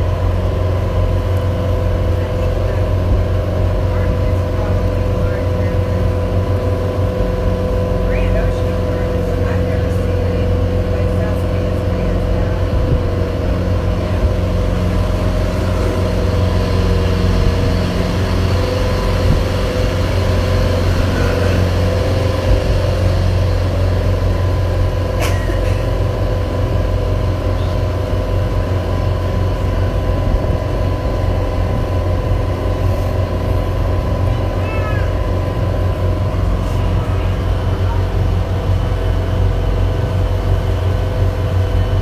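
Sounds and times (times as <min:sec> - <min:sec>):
boat engine droning: 0:00.0 - 0:42.0.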